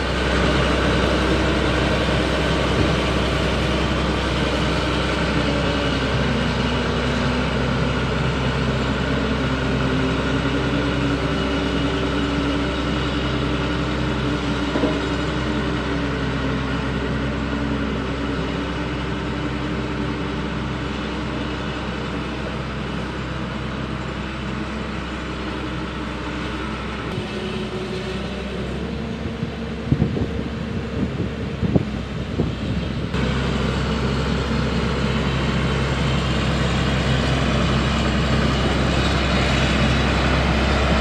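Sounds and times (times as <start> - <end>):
road roller diesel engine running: 0.0 - 41.0.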